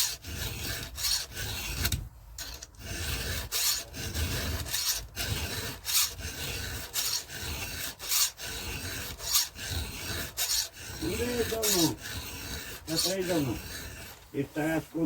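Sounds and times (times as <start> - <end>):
hand file rasping on chain: 0.0 - 15.0.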